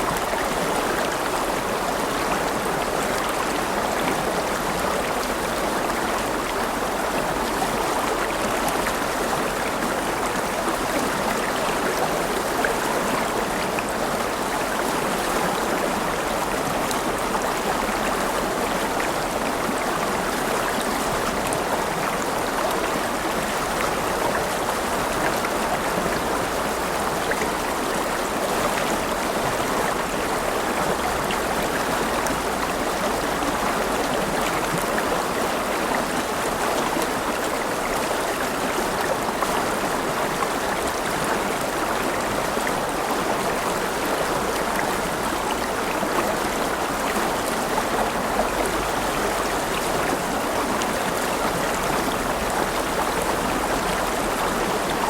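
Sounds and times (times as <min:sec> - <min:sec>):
river water splashing over rocks: 0:00.0 - 0:55.0.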